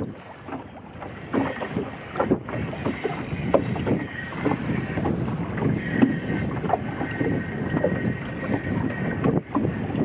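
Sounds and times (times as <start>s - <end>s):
water slapping boat hull: 0.0s - 10.0s
wind buffeting microphone: 0.0s - 10.0s.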